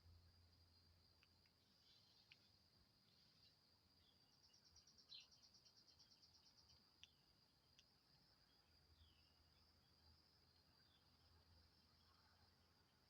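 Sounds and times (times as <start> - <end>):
rapid insect trill: 0.0 - 13.0.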